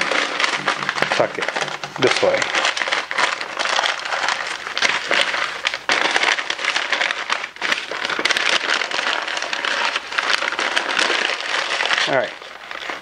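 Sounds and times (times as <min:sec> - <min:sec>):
paper crinkling and crumpling: 0:00.0 - 0:13.0.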